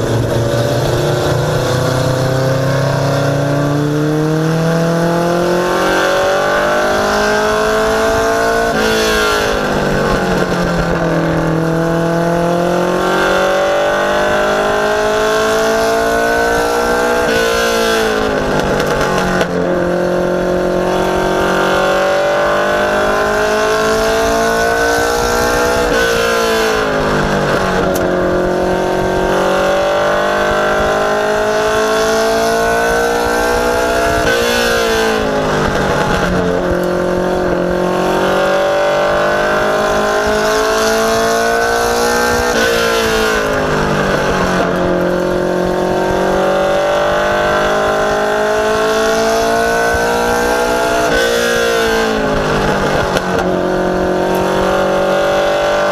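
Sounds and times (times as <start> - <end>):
race car engine: 0.0 - 55.9.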